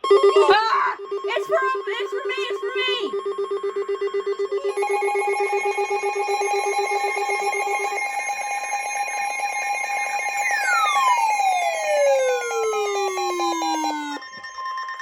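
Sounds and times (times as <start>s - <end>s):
high pulsing alert tone: 0.0s - 14.2s.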